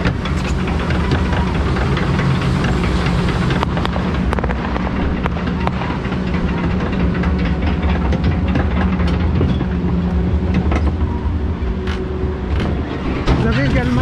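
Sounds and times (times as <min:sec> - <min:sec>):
lift mechanical rumble: 0:00.0 - 0:14.0.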